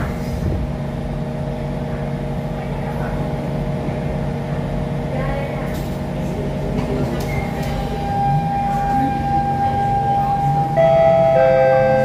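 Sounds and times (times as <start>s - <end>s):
low train running rumble: 0.0s - 12.0s.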